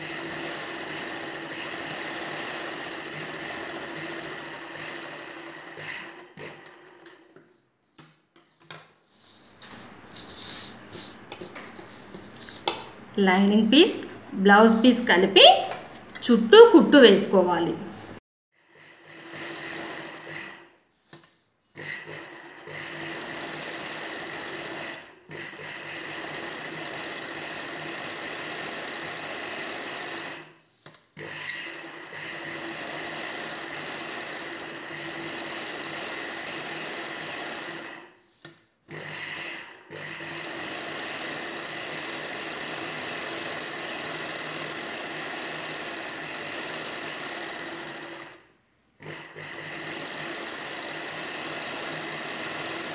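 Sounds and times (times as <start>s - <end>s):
sewing machine stitching: 0.0s - 8.2s, 18.0s - 52.9s.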